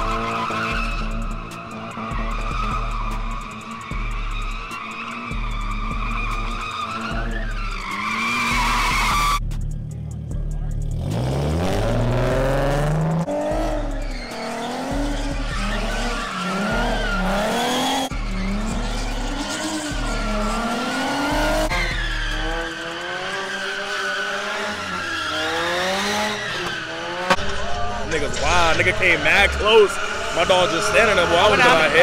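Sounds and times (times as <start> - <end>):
tyres squealing: 0.0 - 9.4, 13.2 - 32.0
car engine revving: 0.0 - 32.0.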